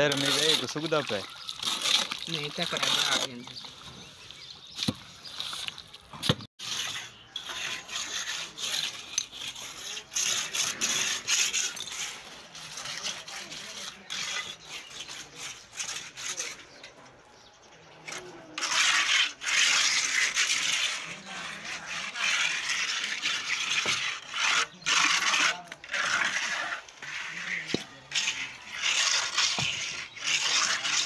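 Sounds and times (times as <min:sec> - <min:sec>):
trowel scraping mortar: 0:00.0 - 0:31.0.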